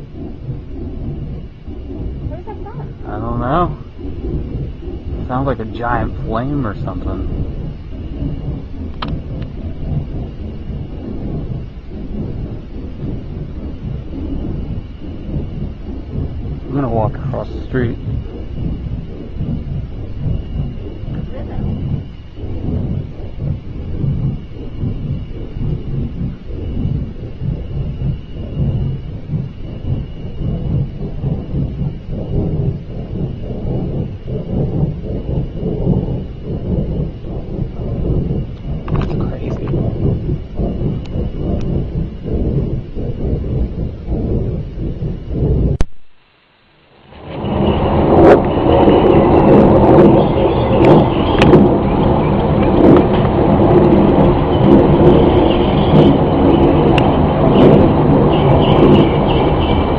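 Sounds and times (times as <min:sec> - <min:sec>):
loud low rumble: 0:00.0 - 0:59.9.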